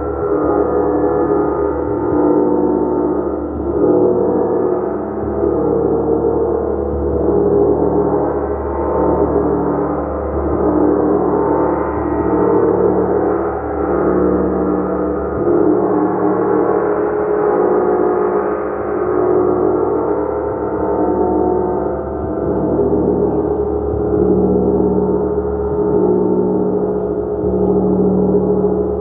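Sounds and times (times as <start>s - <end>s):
gong ringing: 0.0s - 29.0s.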